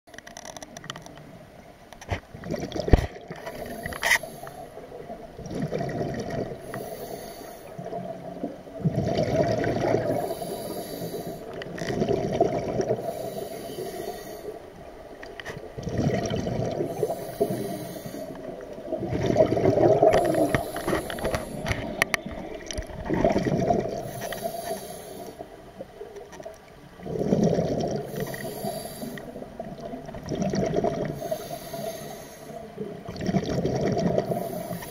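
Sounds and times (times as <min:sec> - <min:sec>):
air bubbles gurgling underwater: 0:02.3 - 0:04.0, 0:04.6 - 0:07.0, 0:07.7 - 0:31.8, 0:32.8 - 0:34.9.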